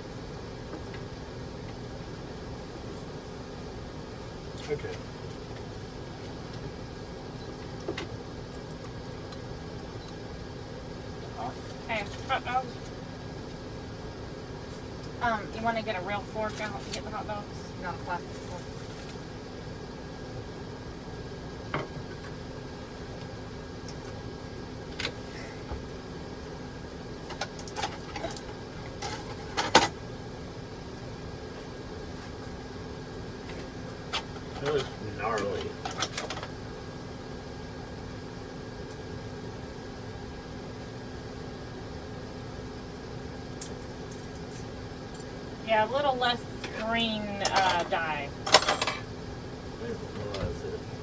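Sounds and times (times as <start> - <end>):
steady low hum: 0.0 - 51.0
ventilation fan whirring: 0.0 - 51.0.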